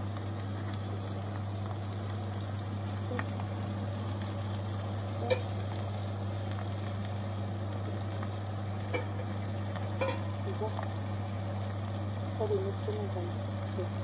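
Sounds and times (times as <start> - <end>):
constant low hum: 0.0 - 14.0
food sizzling in a pan: 0.0 - 14.0.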